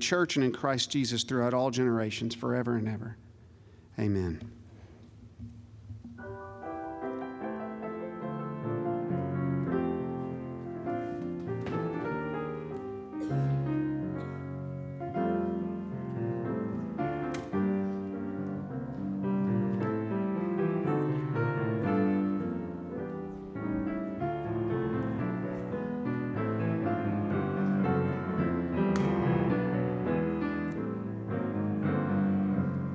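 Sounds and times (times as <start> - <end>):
piano chords: 5.6 - 32.9.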